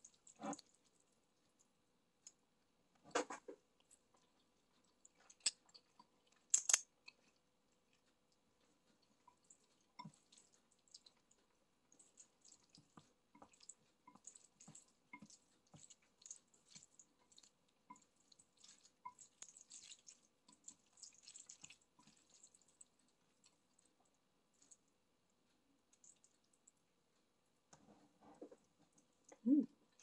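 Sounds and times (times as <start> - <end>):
wet chewing squishes: 0.0 - 2.4, 3.7 - 27.3, 28.3 - 30.0
chopsticks stirring noodles in bowl: 0.0 - 30.0.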